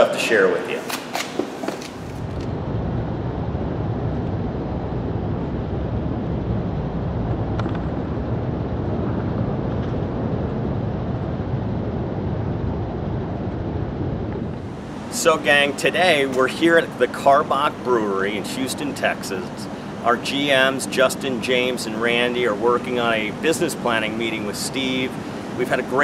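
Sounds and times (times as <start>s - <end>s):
outdoor background rumble: 1.8s - 26.0s.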